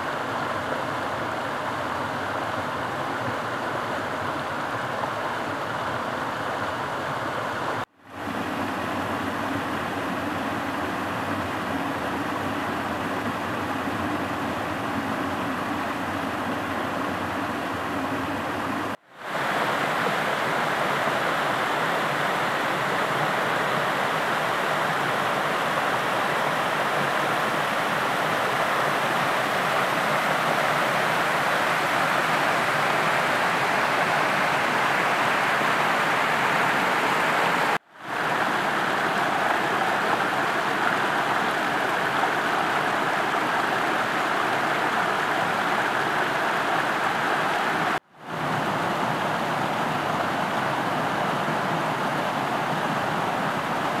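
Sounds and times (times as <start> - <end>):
waterfalls rushing over rock: 0.0 - 54.0.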